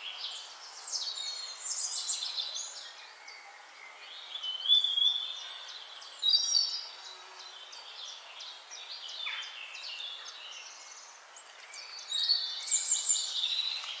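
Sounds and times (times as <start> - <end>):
bird singing whistled notes: 0.0 - 14.0.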